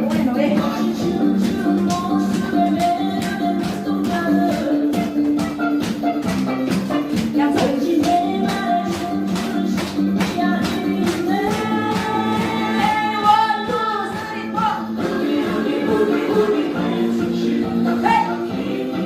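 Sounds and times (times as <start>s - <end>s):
upbeat song with singing: 0.0s - 19.0s.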